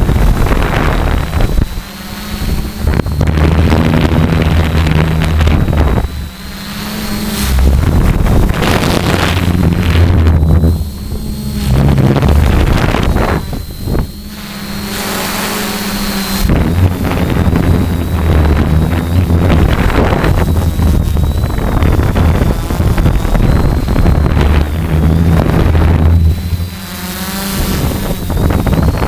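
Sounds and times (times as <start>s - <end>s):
drone motors and propellers: 0.0s - 29.0s
wind rumbling on microphone: 0.0s - 29.0s.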